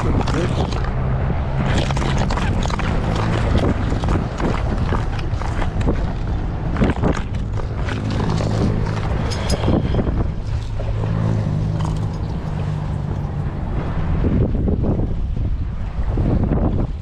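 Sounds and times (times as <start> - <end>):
vehicle engine humming: 0.0 - 15.4.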